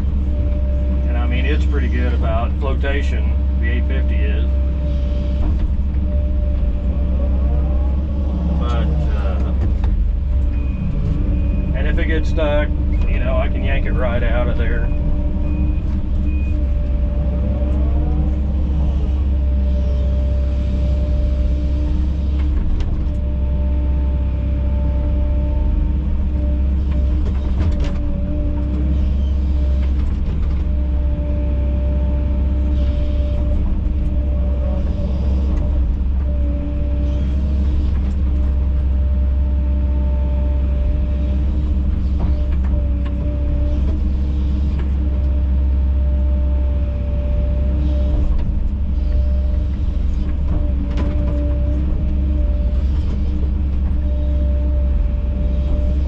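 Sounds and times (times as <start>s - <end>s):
diesel engine running under load: 0.0s - 56.0s
hydraulic whine: 0.0s - 56.0s.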